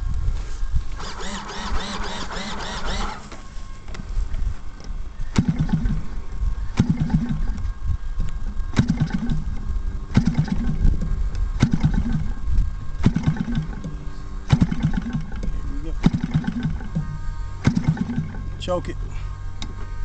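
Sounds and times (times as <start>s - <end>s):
engine turning over: 0.9s - 19.8s.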